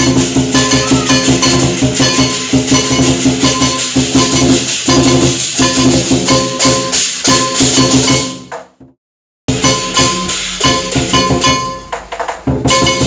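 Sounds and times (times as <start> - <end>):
gong ringing: 0.0 - 8.4, 9.5 - 11.9
cymbals clashing: 0.0 - 8.5, 9.5 - 13.0
drum beating fast rhythm: 0.0 - 13.0.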